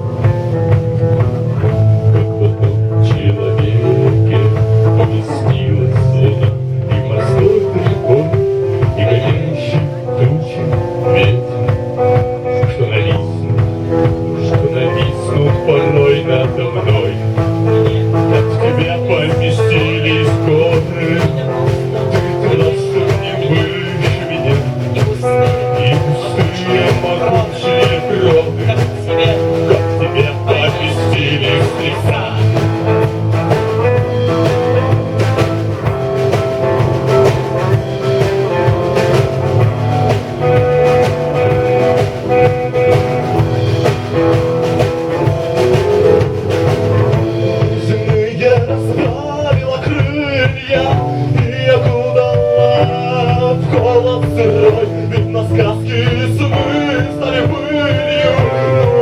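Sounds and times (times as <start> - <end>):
drum hits: 0.0 - 59.0
rock band playing live: 0.0 - 59.0
strong bass line: 0.0 - 59.0.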